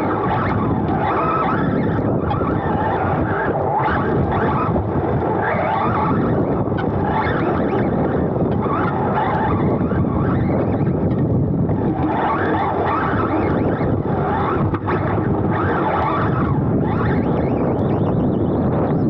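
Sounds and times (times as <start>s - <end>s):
wind and tyre noise: 0.0s - 19.0s.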